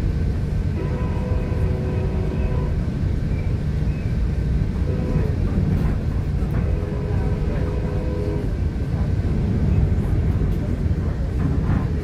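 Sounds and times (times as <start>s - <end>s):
train rumble from inside: 0.0s - 12.0s.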